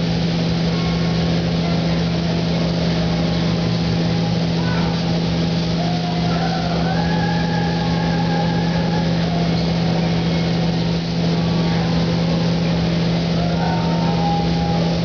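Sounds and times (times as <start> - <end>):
spray gun hissing: 0.0 - 15.0
ventilation fans humming: 0.0 - 15.0.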